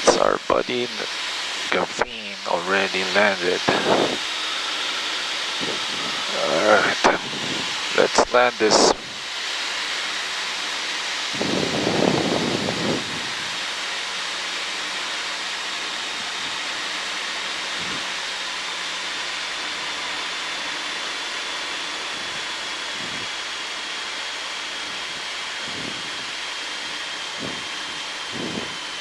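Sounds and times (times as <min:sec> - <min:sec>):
airflow over airframe: 0:00.0 - 0:29.0
small plane engine: 0:00.0 - 0:29.0.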